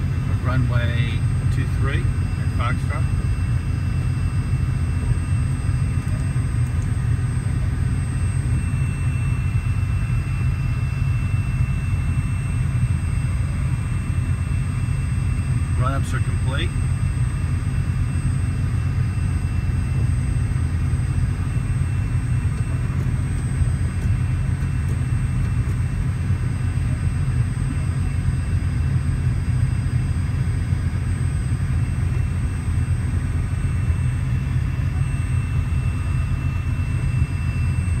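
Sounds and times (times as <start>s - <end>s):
airplane engine droning: 0.0s - 38.0s.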